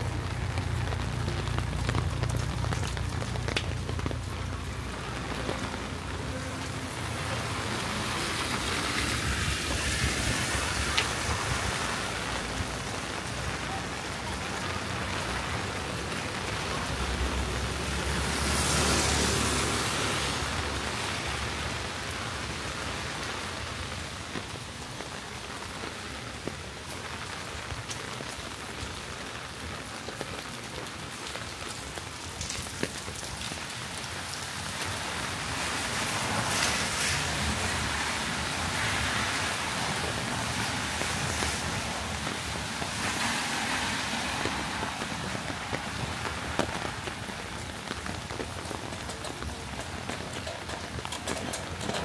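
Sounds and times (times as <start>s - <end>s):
rain falling on street: 0.0s - 52.0s.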